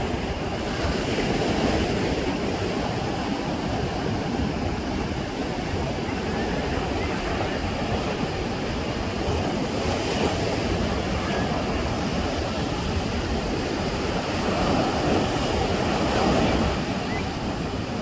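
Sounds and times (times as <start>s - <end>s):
sea waves breaking: 0.0s - 18.0s.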